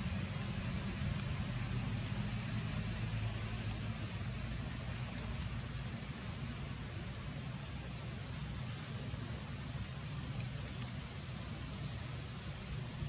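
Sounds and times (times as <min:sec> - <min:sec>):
insects chirring: 0:00.0 - 0:13.0
low even hum: 0:00.0 - 0:13.0.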